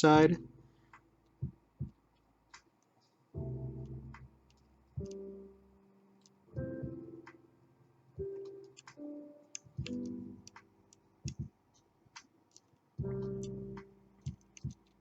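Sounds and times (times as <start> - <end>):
soft piano-like background music: 0.0 - 2.0, 3.3 - 15.0.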